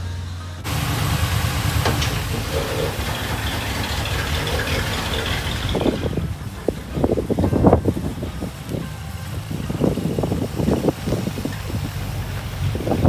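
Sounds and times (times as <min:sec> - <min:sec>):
car engine low rumble: 0:00.0 - 0:13.0
irregular crackling: 0:00.6 - 0:13.0.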